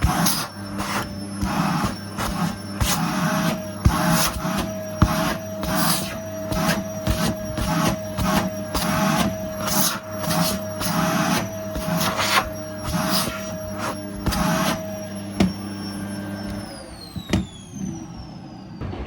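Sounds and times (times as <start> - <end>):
vacuum cleaner running: 0.0 - 19.0
vacuum head sweeping floor: 0.0 - 19.0.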